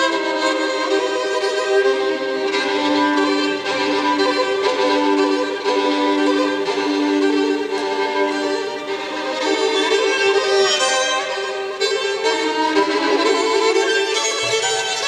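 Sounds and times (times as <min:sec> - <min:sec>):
violin long bowed notes: 0:00.0 - 0:15.0.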